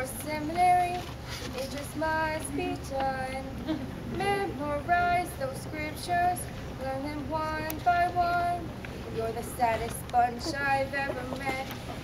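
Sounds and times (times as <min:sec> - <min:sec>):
girls singing: 0:00.0 - 0:11.7.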